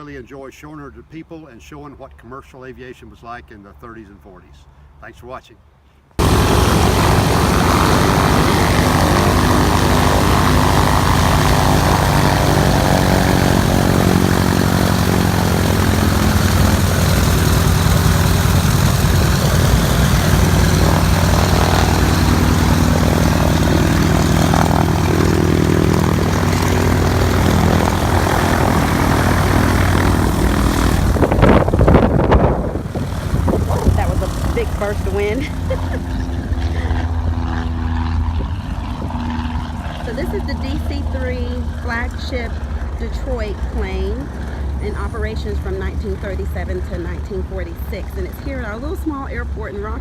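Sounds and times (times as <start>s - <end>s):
piston aircraft engines running: 6.2s - 50.0s
rushing wind from propellers: 6.2s - 50.0s.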